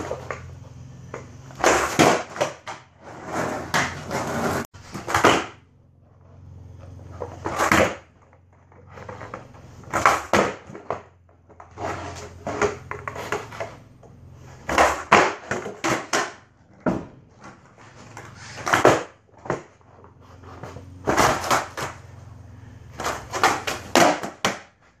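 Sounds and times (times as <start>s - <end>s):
skateboard clattering on concrete: 0.0s - 5.6s, 7.2s - 8.2s, 8.8s - 13.9s, 14.6s - 19.8s, 20.4s - 22.2s, 22.9s - 24.8s.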